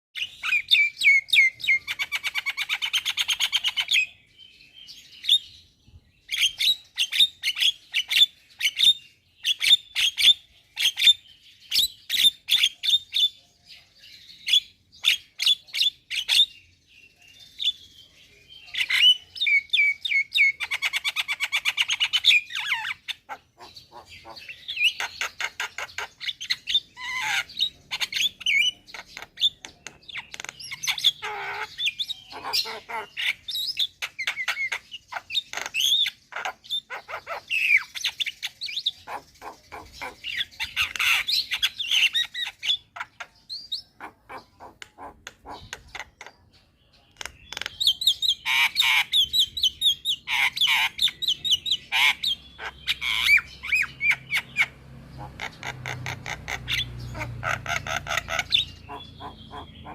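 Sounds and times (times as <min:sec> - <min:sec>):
myna bird chattering: 0:00.2 - 0:04.3, 0:06.2 - 0:59.9.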